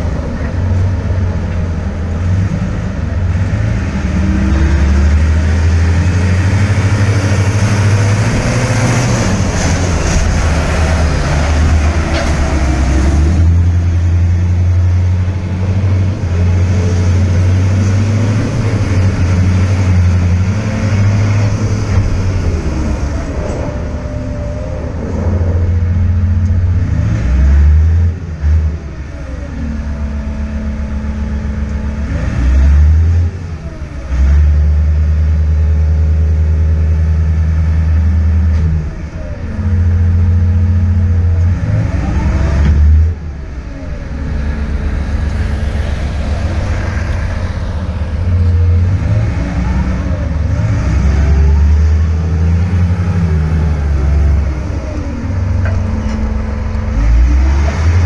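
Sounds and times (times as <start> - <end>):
dump truck diesel engine surging: 0.0 - 58.0.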